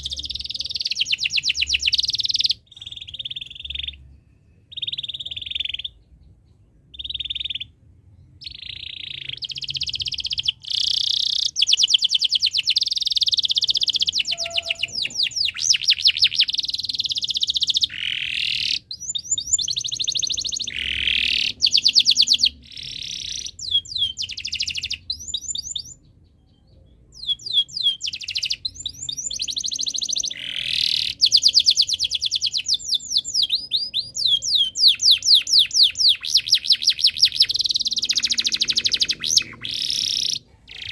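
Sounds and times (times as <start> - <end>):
canary singing fast trills: 0.0 - 40.9.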